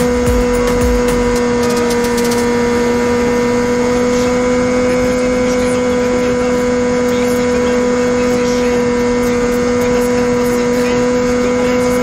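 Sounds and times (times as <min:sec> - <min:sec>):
motorcycle engine running high: 0:00.0 - 0:12.0.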